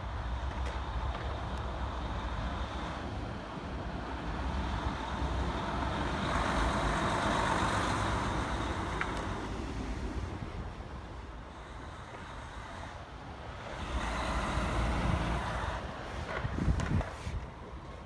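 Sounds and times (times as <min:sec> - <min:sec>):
truck engine rumble: 0:00.0 - 0:18.0.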